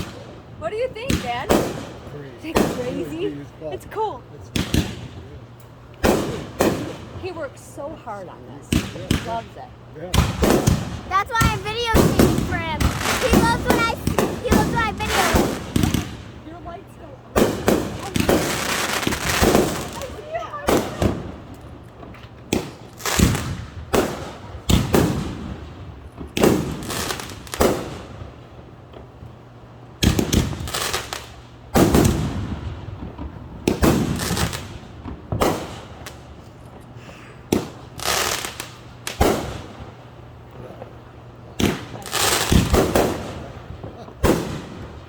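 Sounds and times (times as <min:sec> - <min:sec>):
fireworks bangs: 0:00.0 - 0:45.0.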